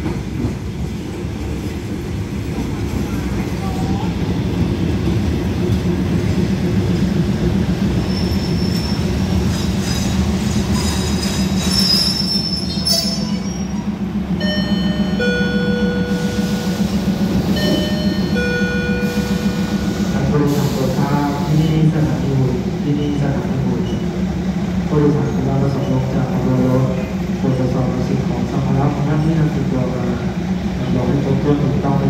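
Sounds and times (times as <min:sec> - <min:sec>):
train engines idling: 0:00.0 - 0:32.0.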